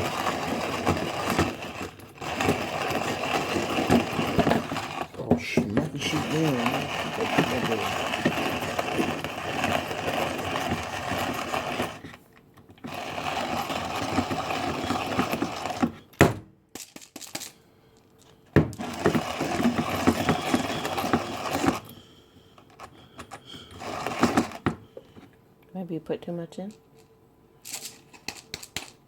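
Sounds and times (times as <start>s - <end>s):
hand-crank coffee grinder grinding: 0.0s - 16.2s, 18.6s - 25.3s, 27.7s - 29.0s.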